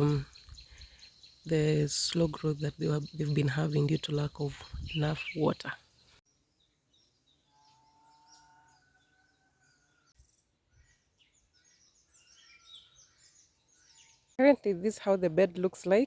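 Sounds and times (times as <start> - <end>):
faint birdsong chirps: 0.0 - 14.6.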